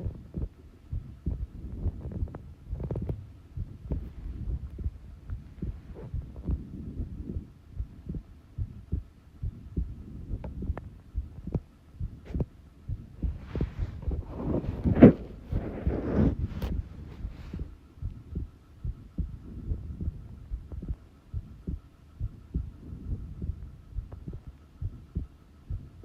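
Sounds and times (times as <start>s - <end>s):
heartbeat thumps: 0.0s - 26.0s
recording noise: 0.0s - 26.0s.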